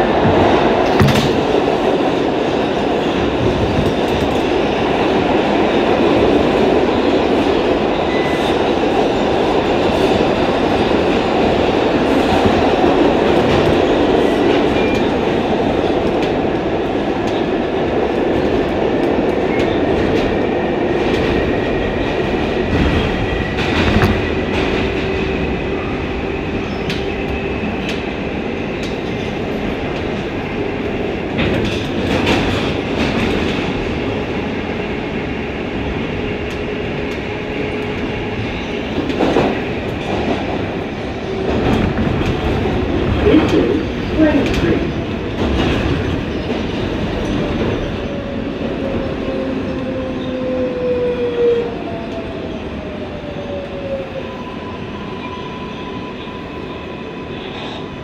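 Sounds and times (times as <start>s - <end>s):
subway train wheels rumbling on rail: 0.0s - 58.0s.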